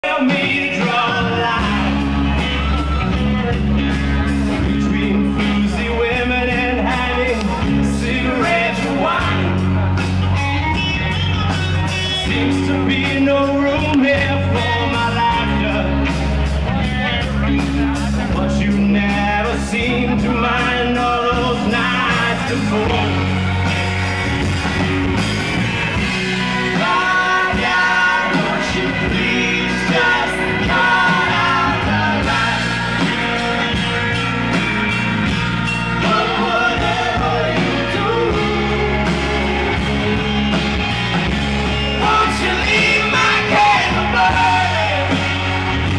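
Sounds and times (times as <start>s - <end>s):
person singing: 0.0s - 23.8s, 26.0s - 34.3s, 35.7s - 40.5s, 41.8s - 45.4s
bass: 0.0s - 45.9s
drums: 0.0s - 45.9s
guitar: 0.0s - 45.9s
live rock band: 0.0s - 45.9s.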